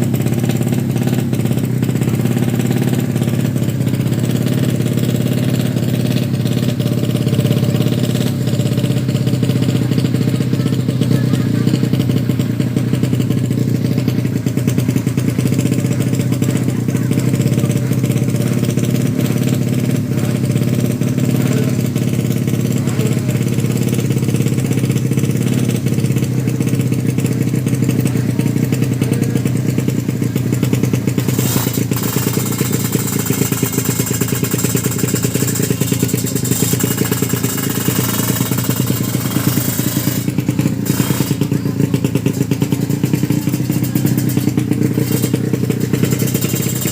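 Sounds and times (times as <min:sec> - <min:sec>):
motorcycle engines running: 0:00.0 - 0:46.9.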